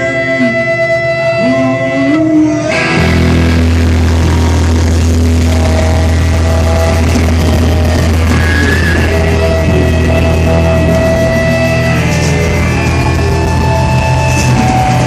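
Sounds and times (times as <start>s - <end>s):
bass: 0.0s - 15.0s
drums: 0.0s - 15.0s
electric guitars: 0.0s - 15.0s.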